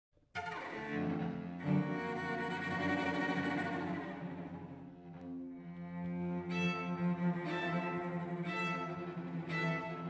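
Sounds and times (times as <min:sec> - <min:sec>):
cellos playing: 0:00.4 - 0:10.0.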